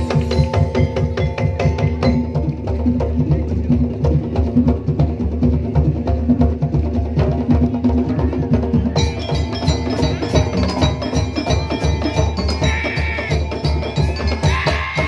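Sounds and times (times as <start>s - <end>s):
percussion ensemble playing: 0.0s - 15.0s.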